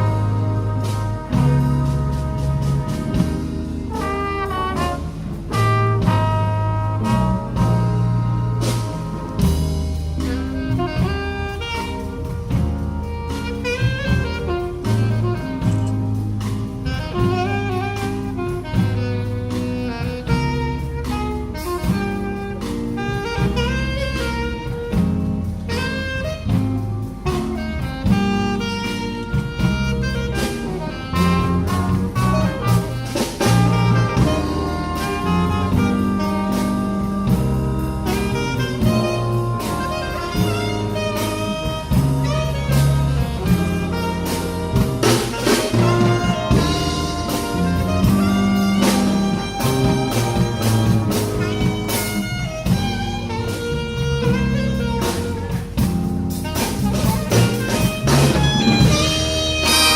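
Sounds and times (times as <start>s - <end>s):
big band playing jazz: 0.0s - 59.9s
saxophone lines: 0.0s - 59.9s.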